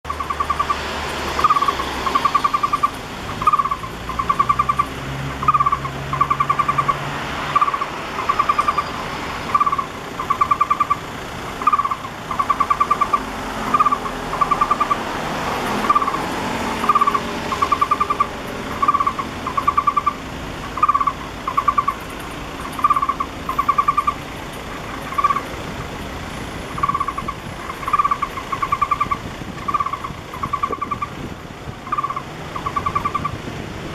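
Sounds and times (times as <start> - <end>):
nestling trilling calls: 0.0 - 33.4
low traffic rumble: 0.0 - 33.9.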